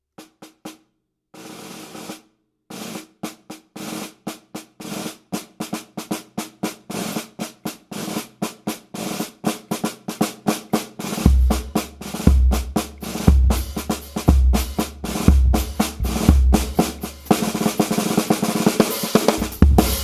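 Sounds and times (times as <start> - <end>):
snare drum strokes and rolls: 1.4 - 20.0.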